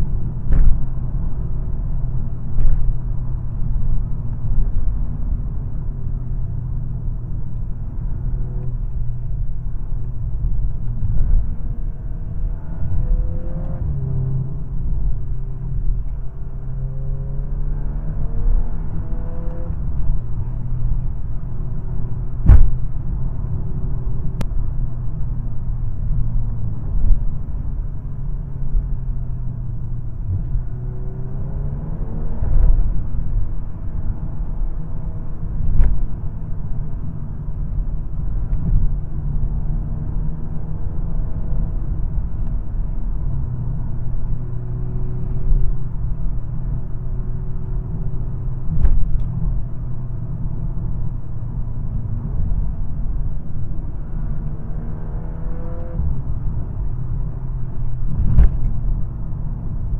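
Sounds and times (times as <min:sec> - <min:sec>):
car engine accelerating: 0:00.0 - 0:59.9
road rumble: 0:00.0 - 0:59.9.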